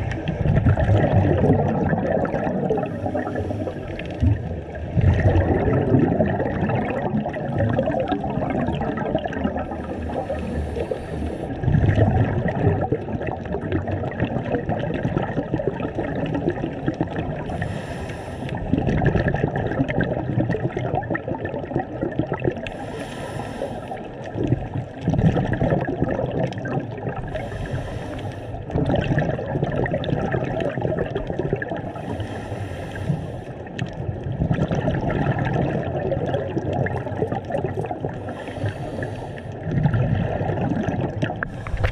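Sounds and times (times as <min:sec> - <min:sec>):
underwater rushing and gurgling: 0:00.0 - 0:41.9.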